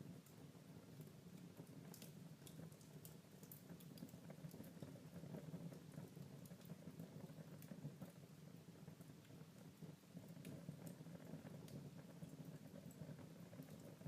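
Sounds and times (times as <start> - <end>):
low background noise: 0.0 - 14.0
wood fire crackling: 0.0 - 14.0.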